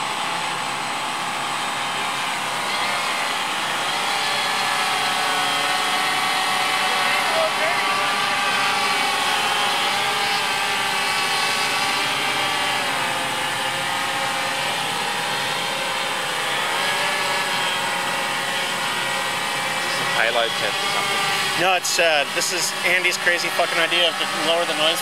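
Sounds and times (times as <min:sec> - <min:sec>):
drone motors buzzing whine: 0:00.0 - 0:25.0.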